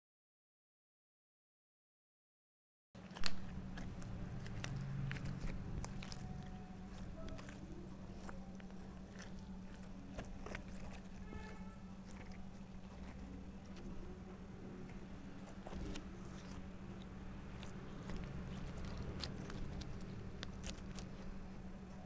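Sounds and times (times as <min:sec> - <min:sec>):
slime squished by hand: 0:03.0 - 0:22.0
steady low hum: 0:03.0 - 0:22.0.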